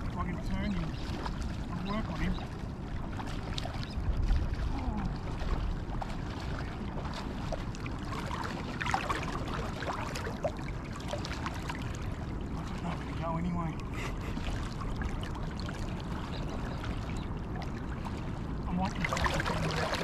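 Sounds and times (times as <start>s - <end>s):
shallow water lapping around legs: 0.0s - 20.0s
wind rumbling on microphone: 0.0s - 20.0s.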